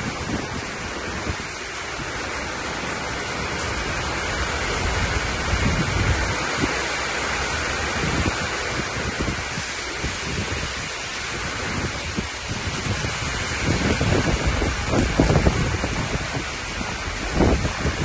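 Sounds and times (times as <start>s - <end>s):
gusty wind: 0.0s - 18.0s
heavy rain roaring: 0.0s - 18.0s.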